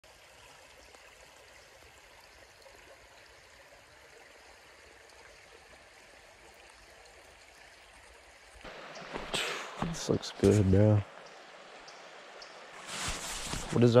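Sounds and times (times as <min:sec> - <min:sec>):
faint creek flowing: 0:00.0 - 0:14.0.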